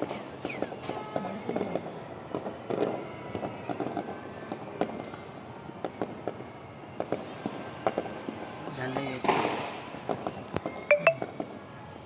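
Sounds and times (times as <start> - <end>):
fireworks sharp bangs: 0.0 - 5.2, 5.8 - 11.7
fireworks crackling pops: 0.0 - 11.7.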